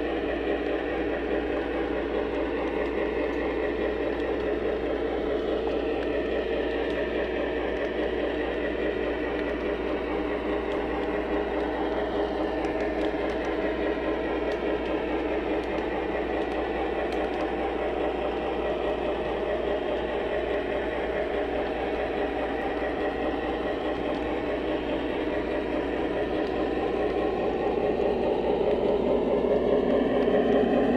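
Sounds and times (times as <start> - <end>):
model train wheels rumbling: 0.0 - 30.9
clicks over rail joints: 0.1 - 30.9.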